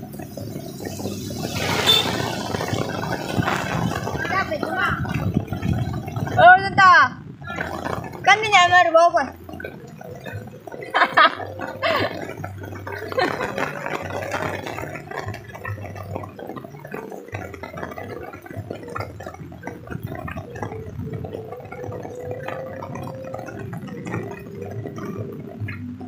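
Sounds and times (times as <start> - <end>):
heavy rain on an umbrella: 0.0 - 26.0.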